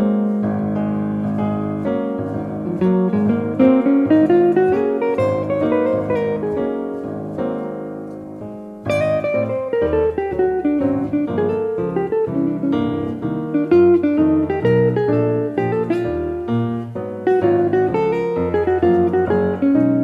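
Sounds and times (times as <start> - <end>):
plucked acoustic guitar music: 0.0 - 20.0.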